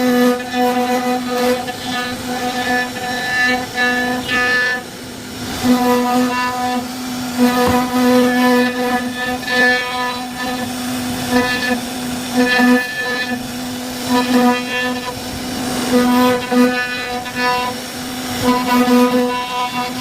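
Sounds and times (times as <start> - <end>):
router bit carving wood: 0.0 - 20.0
router spindle whining: 0.0 - 20.0.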